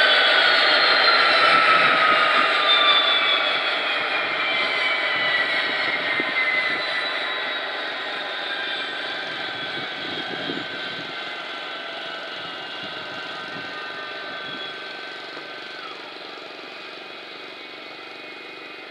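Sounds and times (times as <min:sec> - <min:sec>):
turbine whine falling in pitch: 0:00.0 - 0:18.9.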